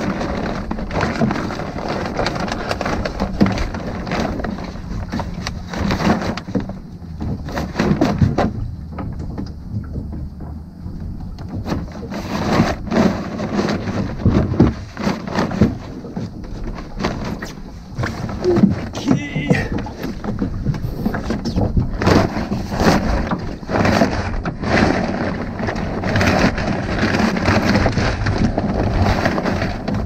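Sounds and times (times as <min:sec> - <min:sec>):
low wind rumble: 0:00.0 - 0:30.0
rope and sail knocks and rustles: 0:00.0 - 0:30.0
water against the hull: 0:00.0 - 0:30.0.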